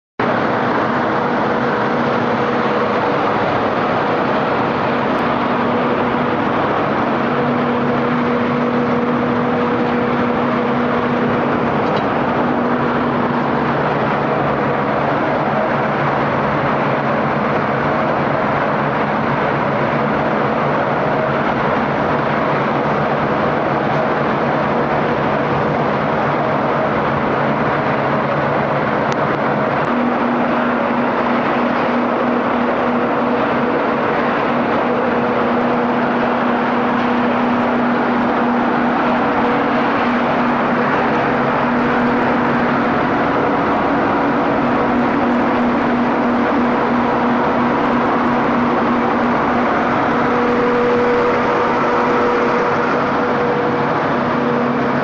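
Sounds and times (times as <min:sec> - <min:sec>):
ball mill running: 0:00.2 - 0:55.0
conveyor belt carrying ore: 0:00.2 - 0:55.0
low motor hum: 0:00.2 - 0:55.0.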